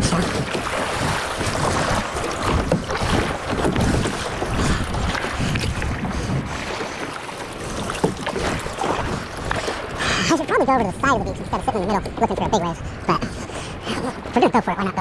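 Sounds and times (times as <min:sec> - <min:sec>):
wind buffeting the microphone: 0:00.0 - 0:14.4
water sloshing and splashing: 0:00.0 - 0:15.0.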